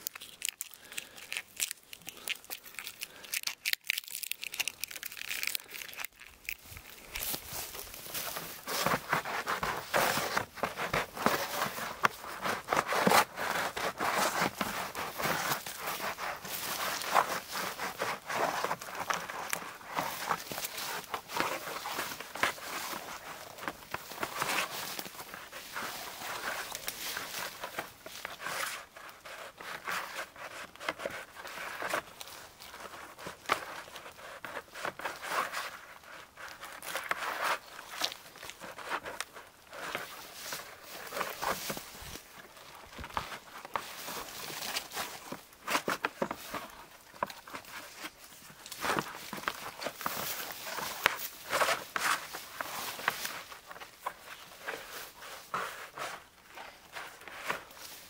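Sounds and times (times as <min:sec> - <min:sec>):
birch bark crackling and scraping: 0:00.0 - 0:58.0.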